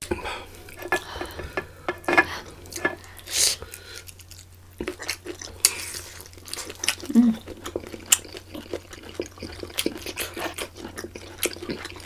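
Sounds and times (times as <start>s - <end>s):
wet chewing and mouth clicks: 2.1s - 12.0s.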